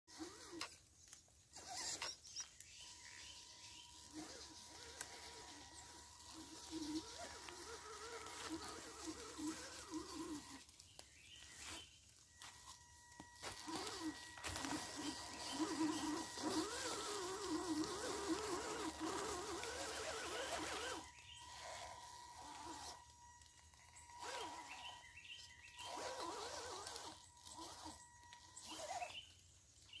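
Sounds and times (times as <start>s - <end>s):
rc car motor whining: 0.1s - 30.0s.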